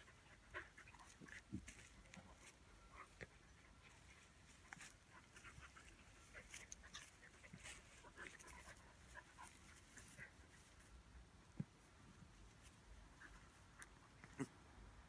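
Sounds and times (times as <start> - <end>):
rustles on grass: 0.0 - 14.1.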